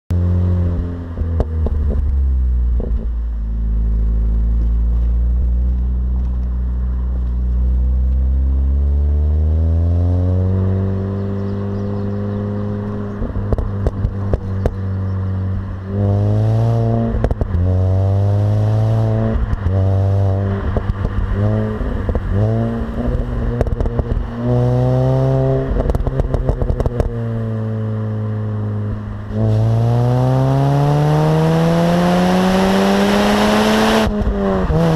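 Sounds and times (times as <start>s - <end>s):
car engine revving: 0.1s - 34.9s.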